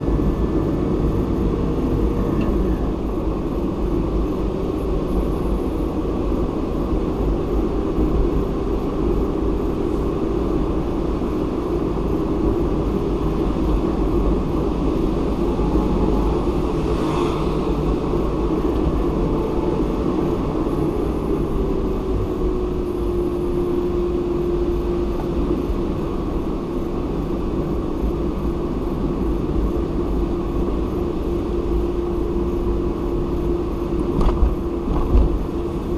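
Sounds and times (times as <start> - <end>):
car tyre and engine rumble: 0.0 - 35.9
droning hum: 0.0 - 35.9.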